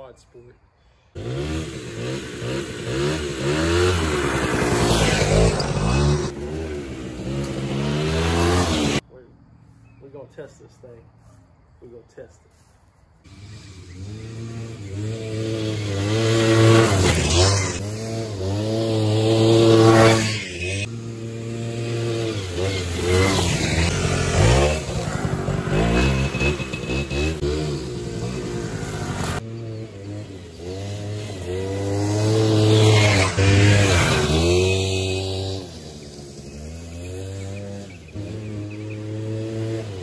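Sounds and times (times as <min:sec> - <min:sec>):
quad bike engine revving: 0:01.2 - 0:09.0, 0:13.3 - 0:40.0.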